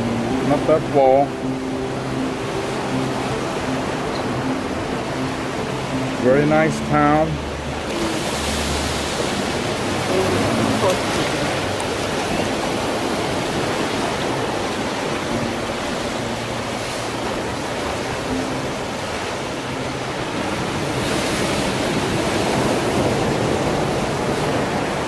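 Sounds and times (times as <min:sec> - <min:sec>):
ocean surf washing over rocks: 0:00.0 - 0:25.0.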